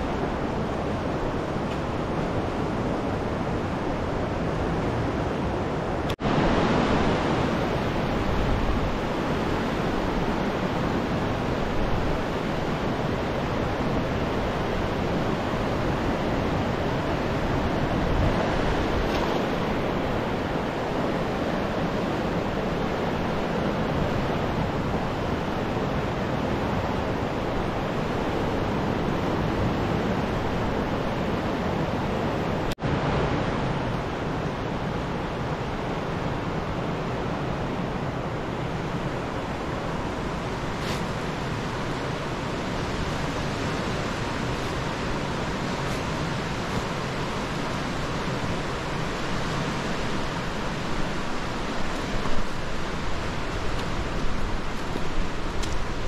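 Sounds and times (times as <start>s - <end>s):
river rushing: 0.0s - 56.0s.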